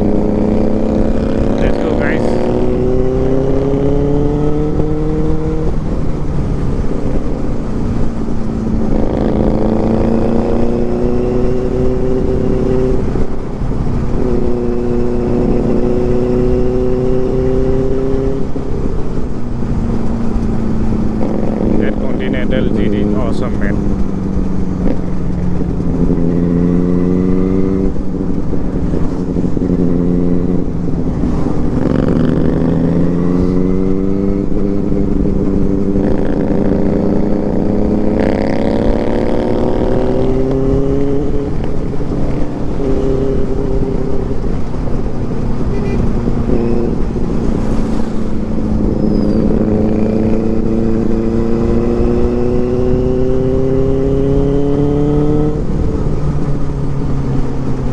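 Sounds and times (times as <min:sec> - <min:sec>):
motorcycle engine accelerating: 0:00.0 - 0:57.9
wind and road rumble: 0:00.0 - 0:57.9.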